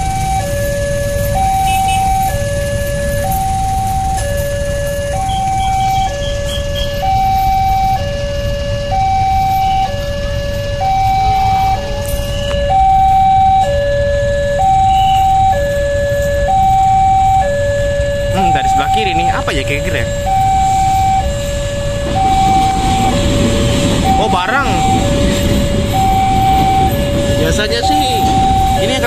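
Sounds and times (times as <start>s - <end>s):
idling motorcycles and cars: 0.0s - 29.0s
two-tone crossing alarm: 0.0s - 29.0s.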